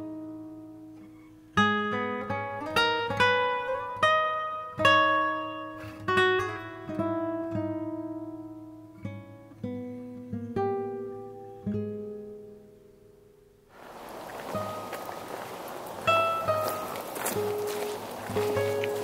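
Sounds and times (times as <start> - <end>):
acoustic guitar picking: 0.0 - 12.8, 14.5 - 19.0.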